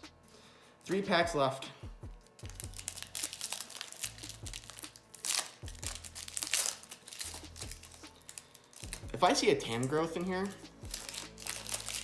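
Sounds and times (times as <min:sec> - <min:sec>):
foil wrapper crinkling and tearing: 0:02.2 - 0:12.0.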